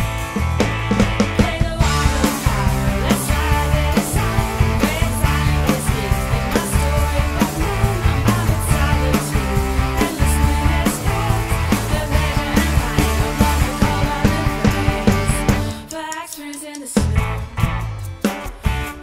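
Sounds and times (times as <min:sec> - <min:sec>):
rock song by full band: 0:00.0 - 0:19.0.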